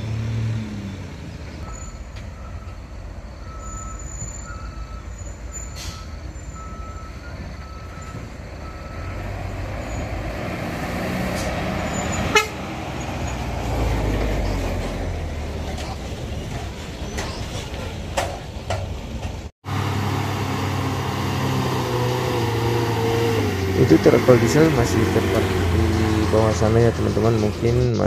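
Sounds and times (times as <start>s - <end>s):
truck diesel engine rumble: 0.0s - 28.0s.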